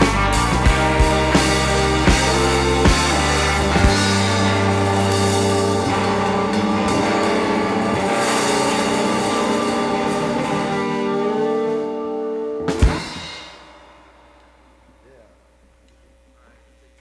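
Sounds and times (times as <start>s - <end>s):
live rock band playing: 0.0s - 14.2s
electric guitar chords ringing: 0.0s - 15.0s.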